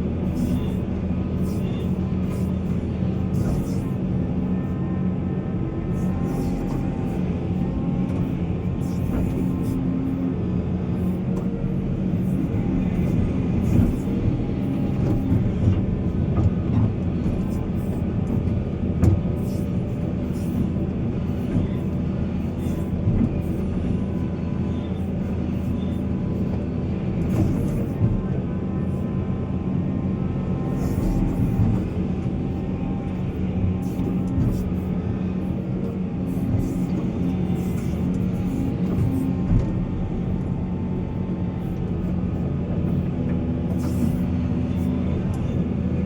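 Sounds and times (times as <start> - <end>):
heavy diesel machinery running: 0.0 - 46.0.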